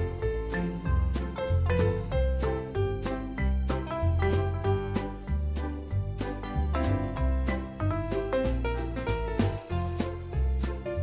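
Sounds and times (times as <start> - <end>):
upbeat instrumental music: 0.0 - 11.0.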